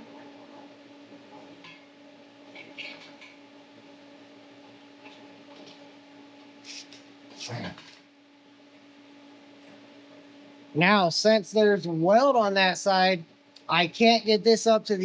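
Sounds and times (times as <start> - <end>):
low shop hum: 0.0 - 15.0.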